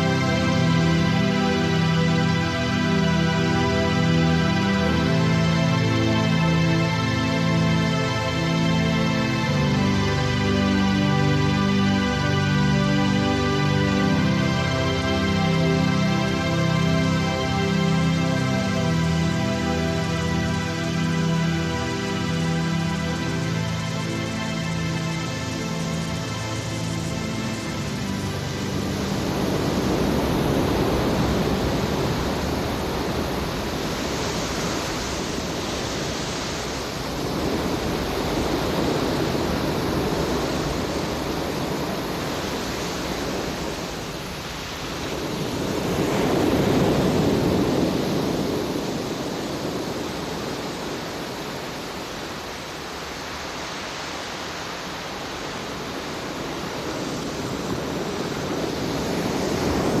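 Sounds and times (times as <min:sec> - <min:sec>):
waves breaking on shore: 0:00.0 - 1:00.0.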